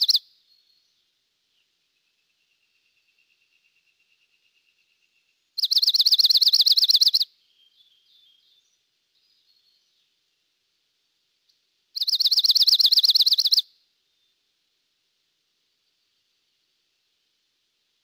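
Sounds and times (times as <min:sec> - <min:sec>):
faint soft bird notes: 0:00.0 - 0:14.8.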